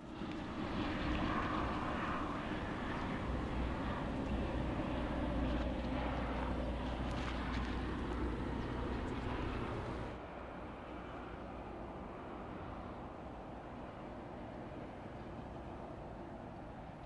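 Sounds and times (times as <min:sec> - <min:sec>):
distant engine drone: 0:00.0 - 0:17.0
outdoor background noise: 0:00.0 - 0:17.0.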